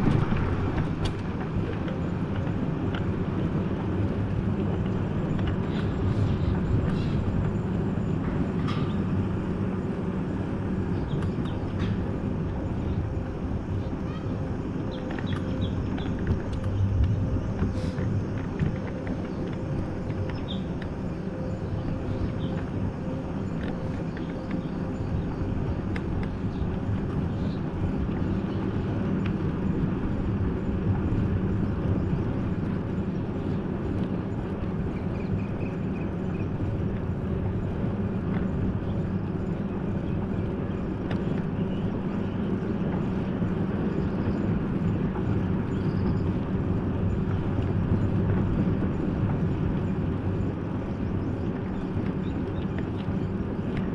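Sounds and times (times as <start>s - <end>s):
road noise: 0.0s - 53.9s.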